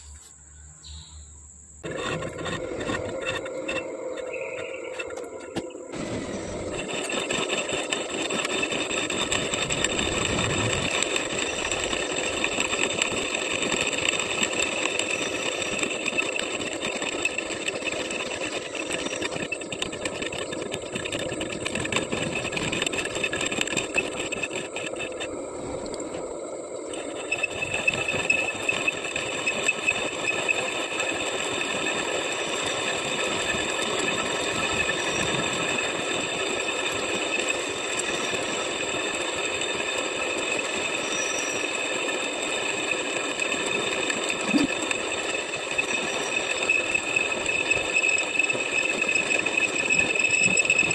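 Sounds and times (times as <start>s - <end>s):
high ringing tone from cutting: 0.0s - 50.9s
metal lathe running: 1.8s - 50.9s.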